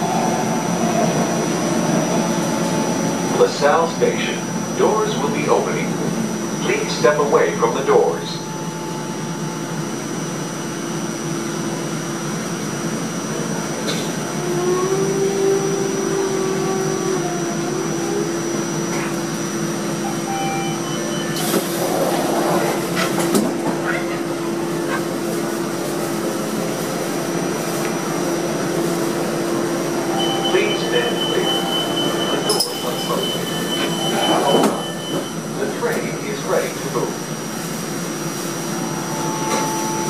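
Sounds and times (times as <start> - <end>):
train ventilation humming: 0.0 - 40.0.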